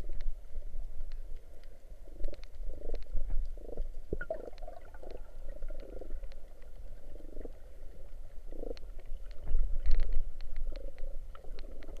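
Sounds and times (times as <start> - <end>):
sharp clicks and crackles: 0.0 - 7.6, 8.5 - 12.0
underwater rumble of moving water: 0.0 - 12.0.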